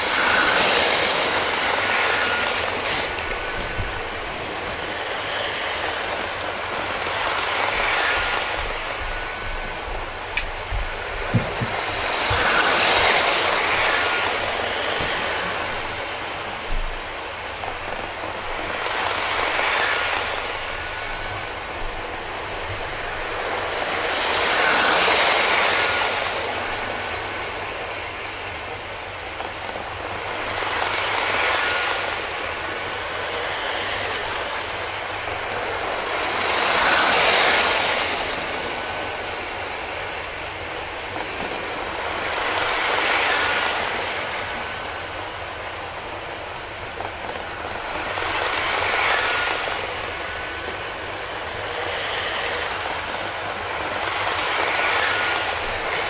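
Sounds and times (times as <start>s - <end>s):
model train rattling on track: 0.0s - 56.0s.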